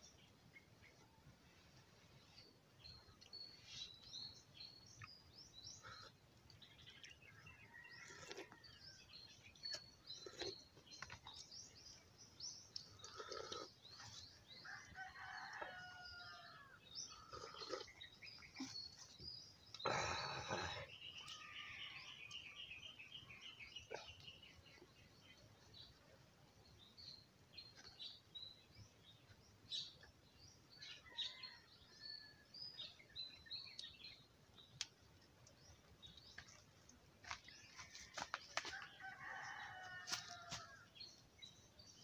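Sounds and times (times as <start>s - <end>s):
small birds chirping: 2.1s - 42.0s.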